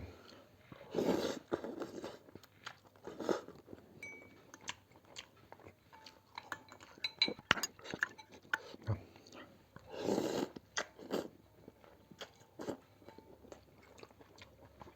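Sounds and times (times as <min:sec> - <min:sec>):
chewing and mouth noises: 0:00.2 - 0:14.9.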